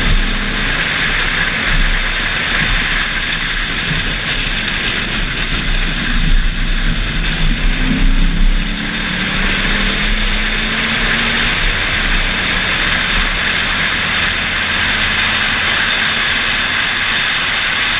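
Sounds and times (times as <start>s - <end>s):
faint car engine: 0.0s - 17.9s
wind buffeting microphone: 0.0s - 17.9s.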